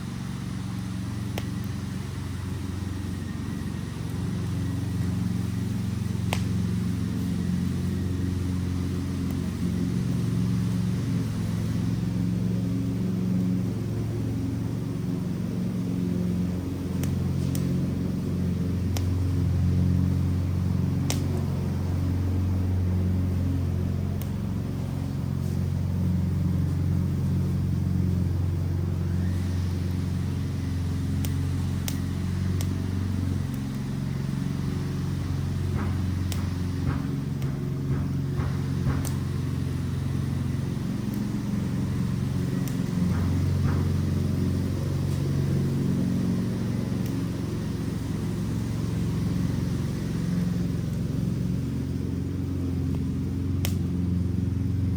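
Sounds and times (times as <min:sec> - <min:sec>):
fire crackles and pops: 0:00.0 - 0:54.9
fire rumbling: 0:00.0 - 0:54.9.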